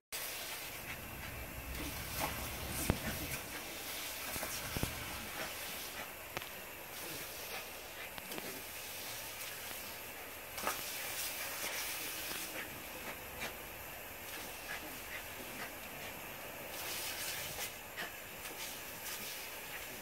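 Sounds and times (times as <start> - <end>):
lawn sprinkler hissing: 0.2 - 20.0.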